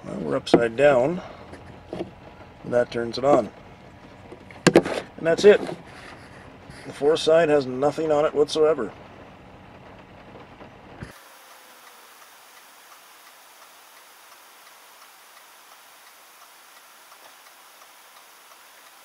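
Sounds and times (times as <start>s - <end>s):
faint regular ticking: 0.0s - 11.2s, 11.8s - 19.0s
steady hiss: 0.0s - 19.0s.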